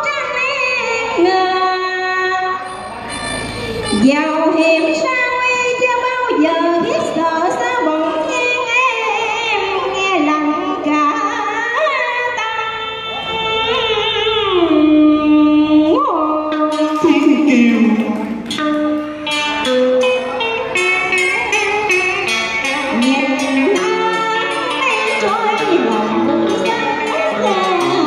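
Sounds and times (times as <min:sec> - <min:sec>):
woman singing with vibrato: 0:00.0 - 0:03.0, 0:03.9 - 0:18.6, 0:21.6 - 0:28.0
plucked electric guitar: 0:00.0 - 0:28.0.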